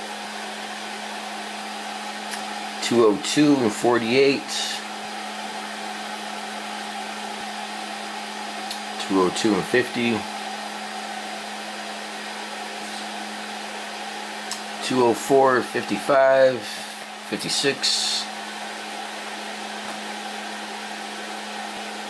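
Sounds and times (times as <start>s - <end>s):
fan whir: 0.0s - 22.0s
low hum of printer: 0.0s - 22.0s.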